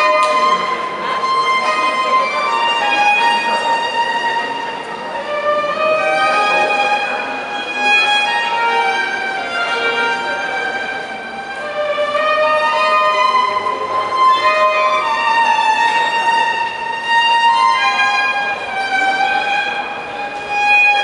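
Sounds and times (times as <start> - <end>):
solo violin melody: 0.0 - 21.0.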